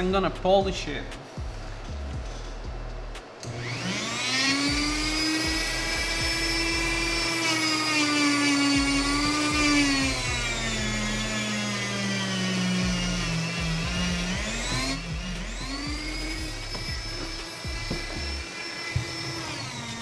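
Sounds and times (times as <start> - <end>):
rotary tool high whine: 3.2 - 20.0.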